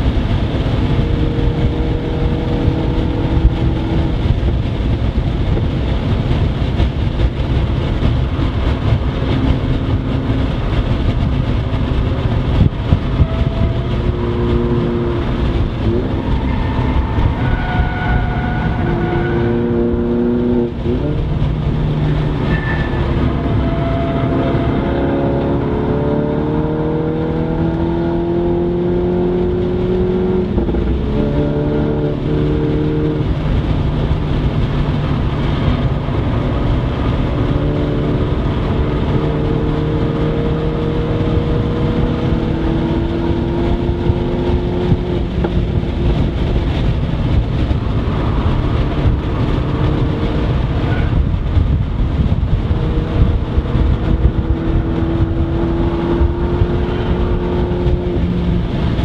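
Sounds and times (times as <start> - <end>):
car engine accelerating: 0.0 - 59.0
road and wind noise: 0.0 - 59.0.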